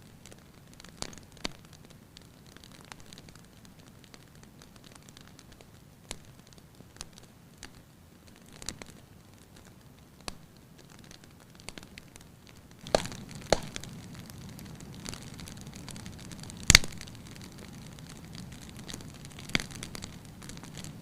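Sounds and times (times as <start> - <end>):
low steady hiss: 0.0 - 21.0
wood fire crackling: 0.0 - 21.0.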